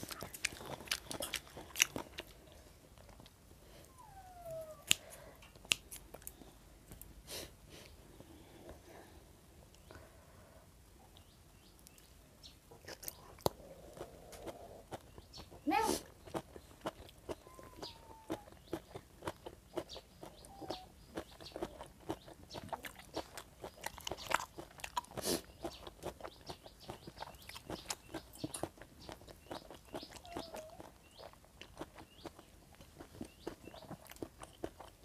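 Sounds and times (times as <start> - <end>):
close chewing and crunching: 0.0 - 7.1, 12.7 - 35.0.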